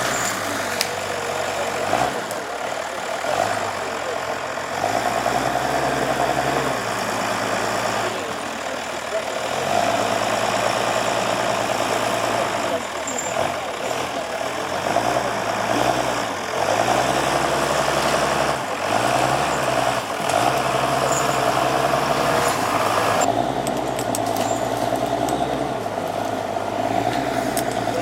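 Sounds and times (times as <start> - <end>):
diesel machinery engine running: 0.0 - 28.0.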